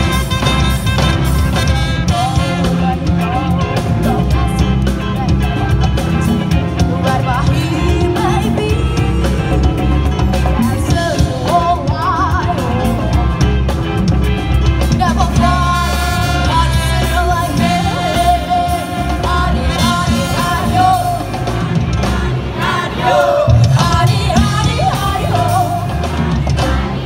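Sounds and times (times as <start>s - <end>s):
singers: 0.0s - 14.1s, 14.8s - 27.0s
congas: 0.0s - 27.0s
drum kit: 0.0s - 27.0s
electric guitars: 0.0s - 27.0s
keyboard: 0.0s - 27.0s.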